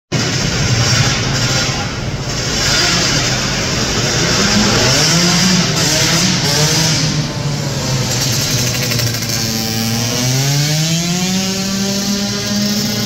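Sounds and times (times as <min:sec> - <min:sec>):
dirt bike engines revving: 0:00.2 - 0:13.0.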